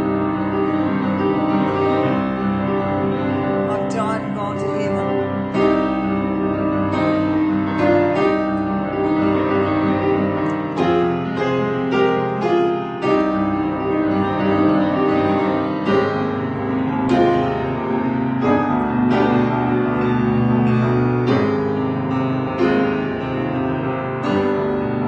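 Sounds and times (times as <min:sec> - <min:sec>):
grand piano playing chords: 0:00.0 - 0:25.0.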